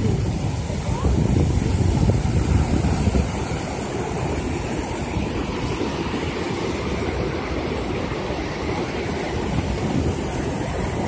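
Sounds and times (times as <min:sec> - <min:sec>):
river rushing over rapids: 0:00.0 - 0:11.0
wind rumble on microphone: 0:00.0 - 0:11.0.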